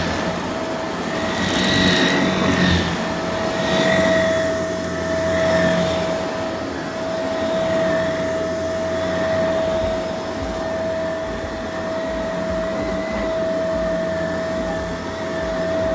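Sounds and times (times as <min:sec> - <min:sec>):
vacuum cleaner running: 0:00.0 - 0:15.9.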